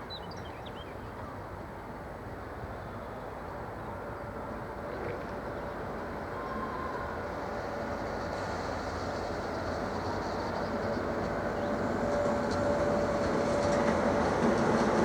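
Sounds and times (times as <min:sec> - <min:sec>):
diesel locomotive and train running: 0:00.4 - 0:15.0.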